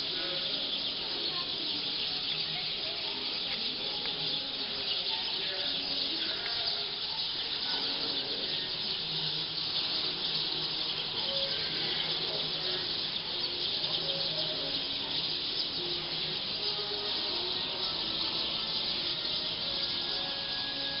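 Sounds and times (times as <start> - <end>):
flock of birds chirping: 0.0 - 21.0.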